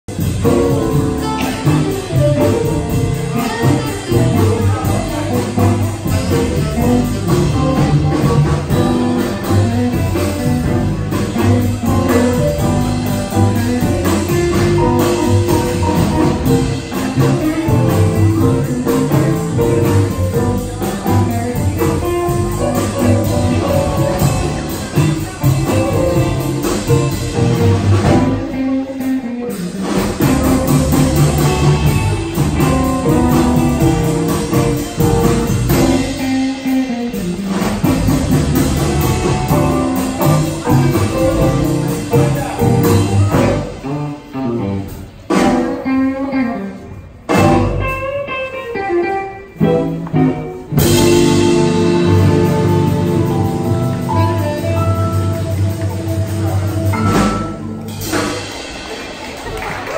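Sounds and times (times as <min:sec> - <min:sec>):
live blues band playing: 0:00.0 - 0:59.9.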